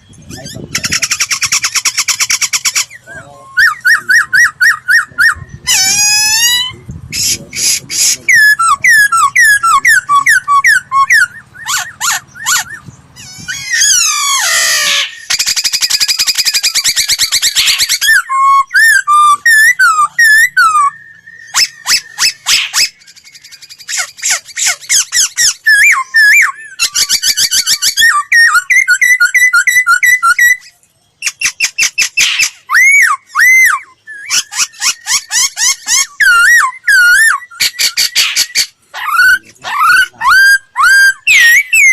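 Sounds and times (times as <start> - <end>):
bird singing whistled phrases: 0.0 - 41.9.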